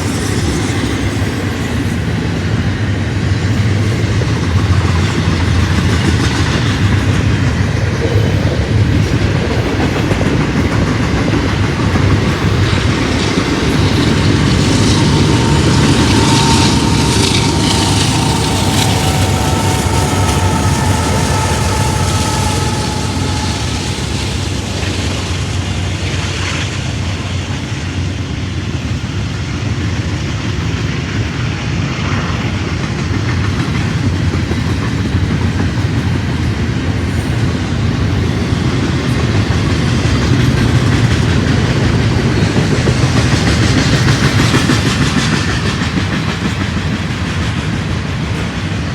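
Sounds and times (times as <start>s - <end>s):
clickety-clack over rail joints: 0.0s - 48.9s
train wheels rumbling on rail: 0.0s - 48.9s
train wheels squealing: 0.0s - 48.9s.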